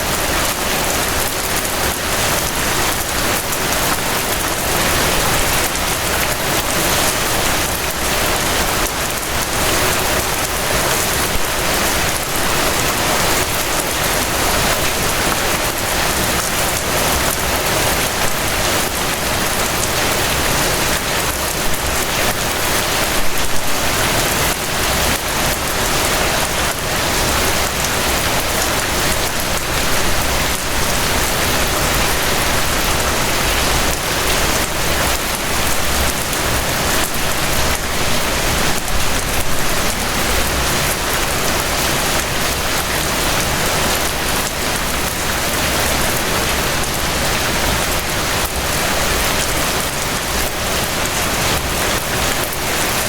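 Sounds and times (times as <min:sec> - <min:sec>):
steady rain pattering: 0:00.0 - 0:53.0.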